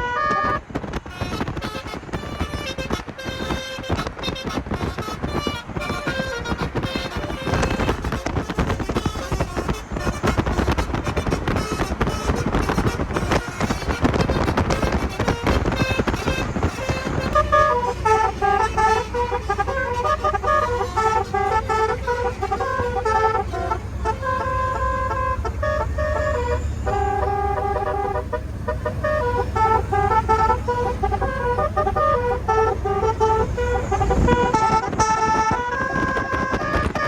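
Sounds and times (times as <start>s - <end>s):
low vehicle rumble: 0.0s - 37.0s
multi-tone car horn tune: 0.0s - 37.0s.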